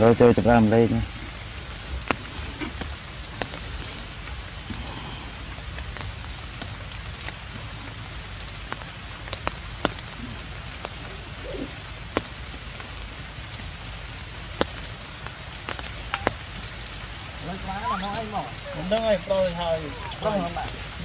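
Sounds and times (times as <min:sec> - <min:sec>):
outdoor hiss: 0:00.0 - 0:21.0.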